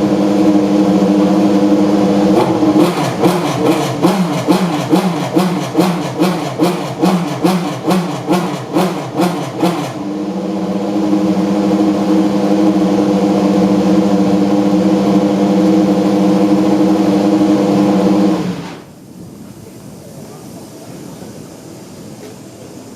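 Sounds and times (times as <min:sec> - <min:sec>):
race car engine idling: 0:00.0 - 0:18.9.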